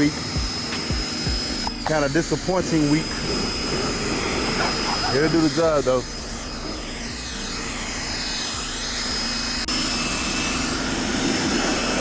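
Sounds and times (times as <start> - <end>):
pressure washer whirring: 0.0 - 12.0.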